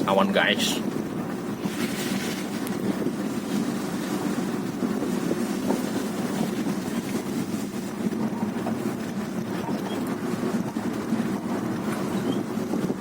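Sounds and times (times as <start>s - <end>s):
engine drone: 0.0s - 13.0s
wind rushing over microphone: 0.0s - 13.0s.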